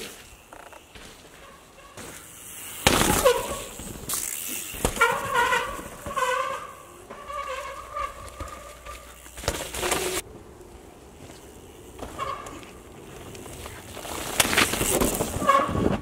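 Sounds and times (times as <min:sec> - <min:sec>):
bike buzzing tone: 0:00.0 - 0:16.0
bike tyres skidding through dirt: 0:00.0 - 0:16.0.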